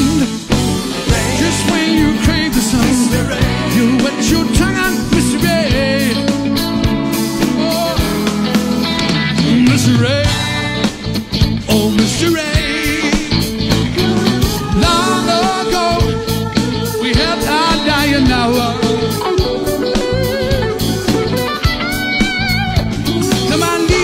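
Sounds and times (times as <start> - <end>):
man singing: 0.0 - 8.5, 9.2 - 21.4, 23.0 - 24.0
drums: 0.0 - 24.0
electric guitar: 0.0 - 24.0.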